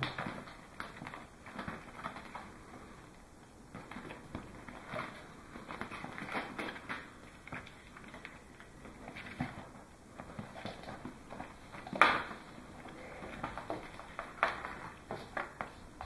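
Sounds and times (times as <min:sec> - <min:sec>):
kittens scratching on fabric bag: 0:00.0 - 0:16.0.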